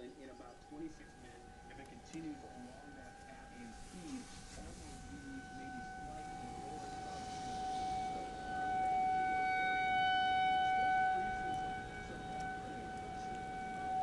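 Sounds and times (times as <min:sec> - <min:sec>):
rotating warning siren: 0:00.0 - 0:14.0.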